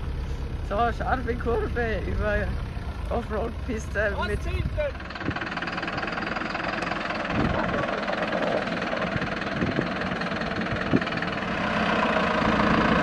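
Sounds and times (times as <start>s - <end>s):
diesel truck engine at low revs: 0.0s - 13.0s.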